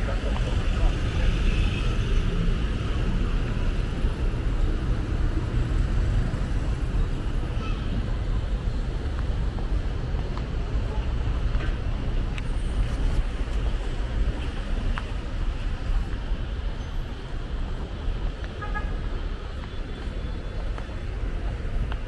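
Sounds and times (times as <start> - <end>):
vehicles passing on busy road: 0.0 - 22.0.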